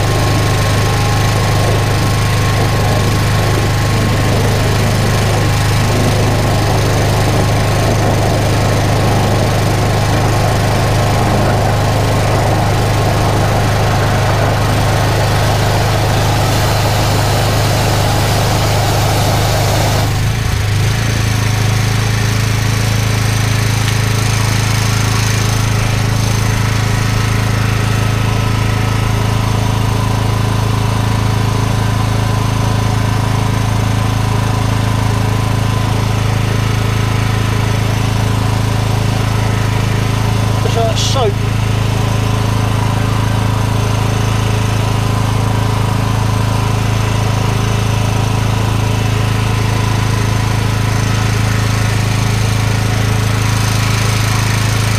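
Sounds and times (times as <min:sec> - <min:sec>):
engine running: 0:00.0 - 0:54.9
water jet rushing: 0:00.0 - 0:54.9.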